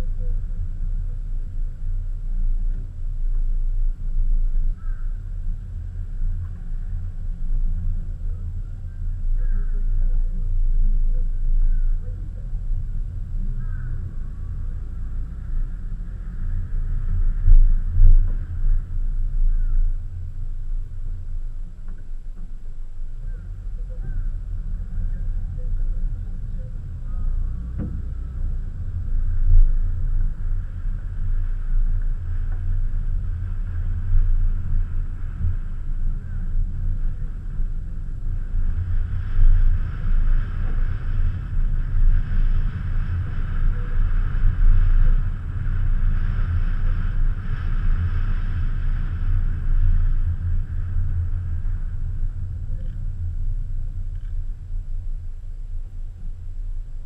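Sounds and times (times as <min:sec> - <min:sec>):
car engine and road rumble: 0:00.0 - 0:57.0
tyre and road hiss: 0:00.0 - 0:57.0.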